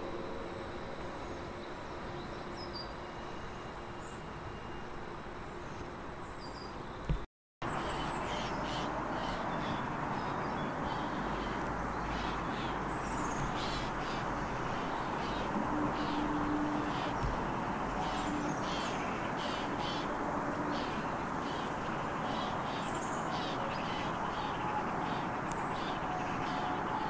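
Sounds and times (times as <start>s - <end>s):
outdoor background rush: 0.0s - 27.0s.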